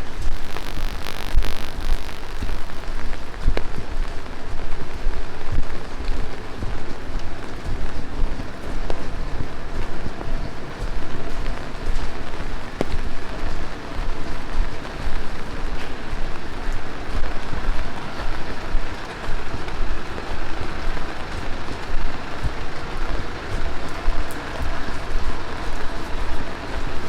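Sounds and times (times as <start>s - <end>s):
heavy rain splattering: 0.0s - 27.0s.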